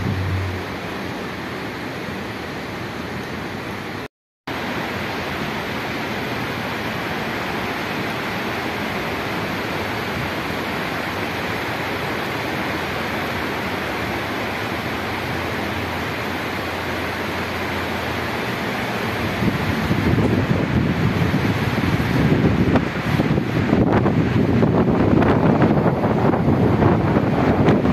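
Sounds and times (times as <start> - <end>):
steady rainfall: 0.0 - 27.9.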